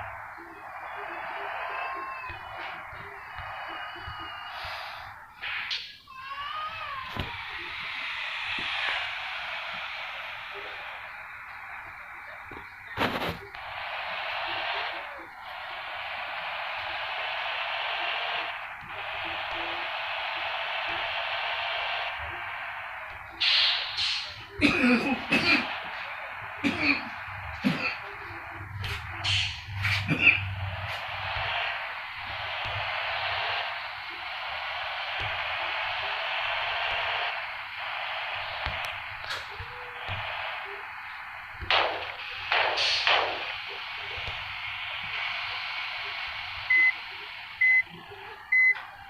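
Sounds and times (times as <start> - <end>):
radio static hiss: 0.0 - 49.0
sharp burst of noise: 0.0 - 49.0.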